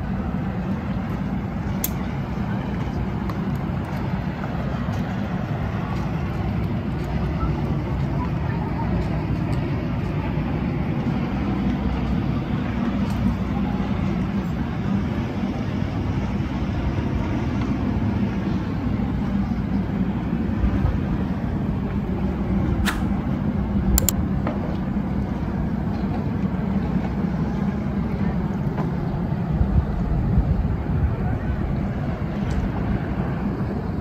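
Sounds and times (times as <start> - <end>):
ship engine humming: 0.0 - 34.0.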